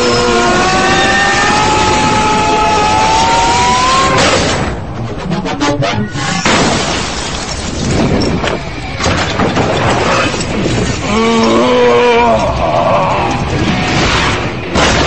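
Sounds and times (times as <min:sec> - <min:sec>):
debris shattering: 0:00.0 - 0:05.0, 0:06.2 - 0:15.0
metal crashes: 0:01.1 - 0:05.2, 0:06.1 - 0:12.6, 0:13.2 - 0:15.0.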